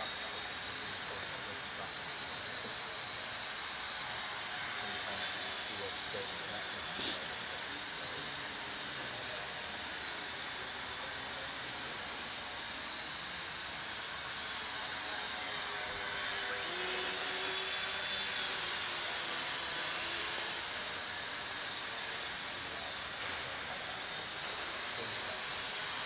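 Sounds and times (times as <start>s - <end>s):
model plane motors whining: 0.0s - 26.0s.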